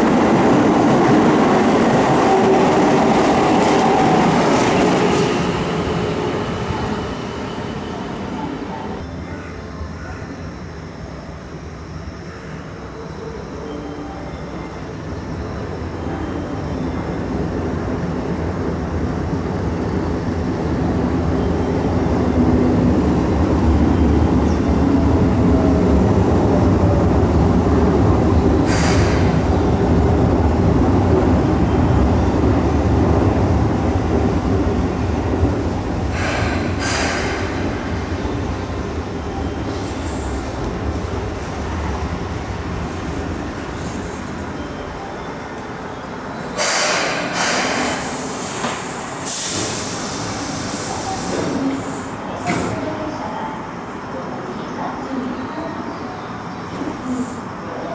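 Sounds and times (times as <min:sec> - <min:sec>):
electric train rumble: 0:00.0 - 0:57.9.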